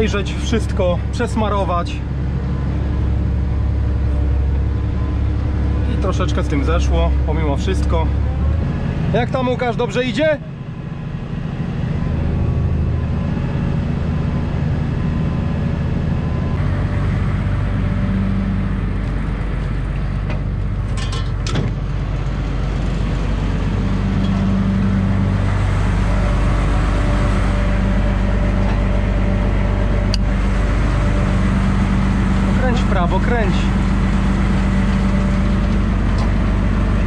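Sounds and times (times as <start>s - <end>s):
farm machinery engine running: 0.0s - 37.0s.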